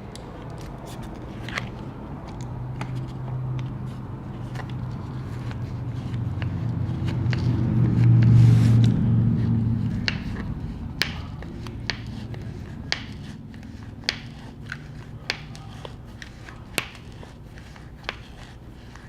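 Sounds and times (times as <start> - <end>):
low hum: 0.0 - 15.3.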